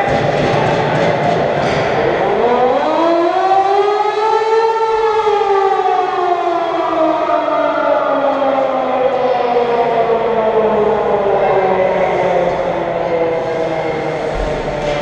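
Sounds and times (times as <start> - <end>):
siren wailing: 2.1 - 15.0.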